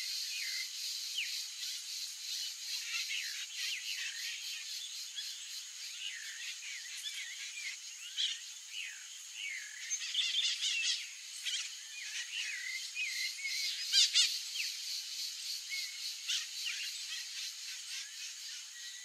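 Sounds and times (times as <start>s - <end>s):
songbirds chirping and whistling: 0.0s - 19.0s.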